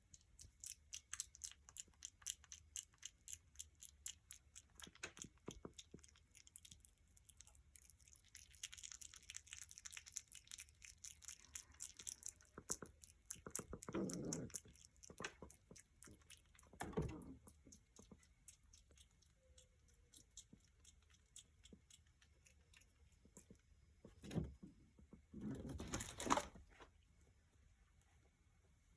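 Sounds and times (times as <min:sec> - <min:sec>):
animal chewing wet smacking: 0:00.4 - 0:23.6.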